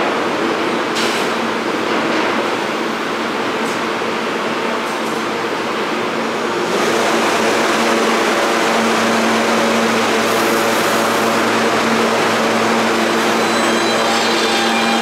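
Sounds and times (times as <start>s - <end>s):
subway train wheel and rail noise: 0.0s - 15.0s.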